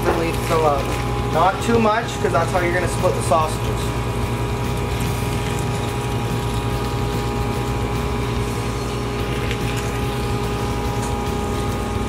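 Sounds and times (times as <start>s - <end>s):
sausage stuffer motor humming: 0.0s - 12.0s.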